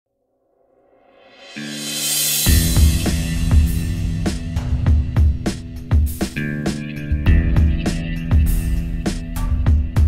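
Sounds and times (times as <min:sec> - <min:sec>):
intro music with held chord: 0:01.0 - 0:10.0.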